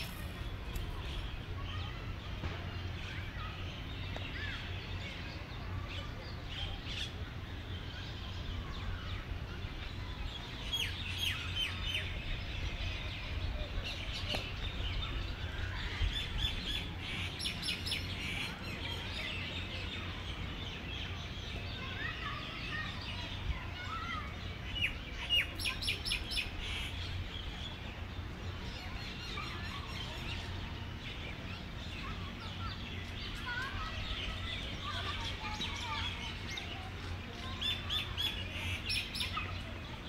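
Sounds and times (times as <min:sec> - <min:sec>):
birds chirping and twittering: 0:00.0 - 0:40.0.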